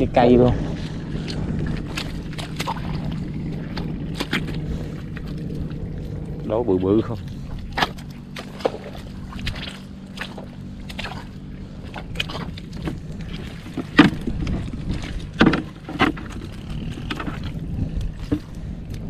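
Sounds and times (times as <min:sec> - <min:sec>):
water sloshing: 0:00.0 - 0:19.0
small motor droning: 0:00.2 - 0:19.0.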